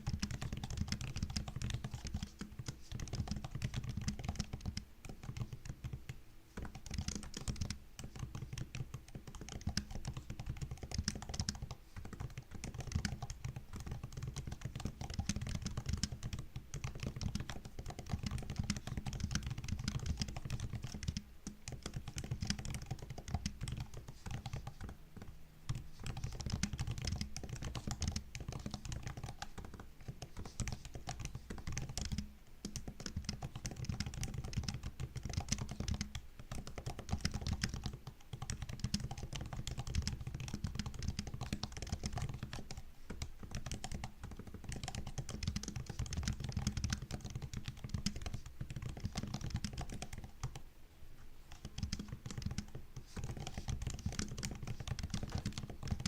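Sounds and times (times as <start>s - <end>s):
fast typing on laptop keyboard: 0.0s - 50.6s, 51.5s - 56.0s.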